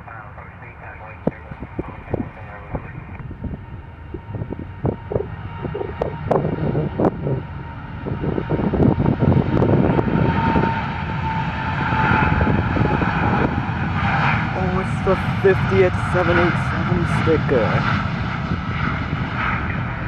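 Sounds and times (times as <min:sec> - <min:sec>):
jet airliner engines passing: 0:00.0 - 0:20.0
steady engine whine: 0:00.0 - 0:20.0.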